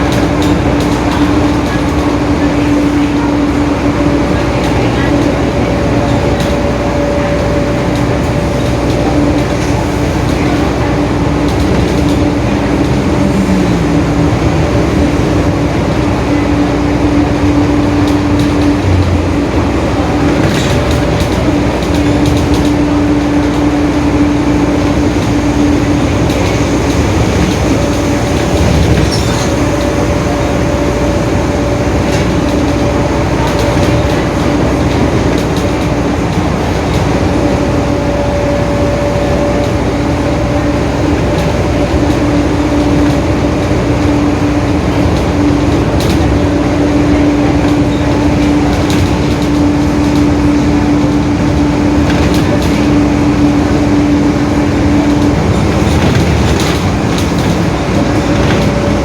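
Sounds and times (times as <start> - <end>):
bus engine and road noise: 0.0 - 59.0
whining differential drone: 0.0 - 59.0.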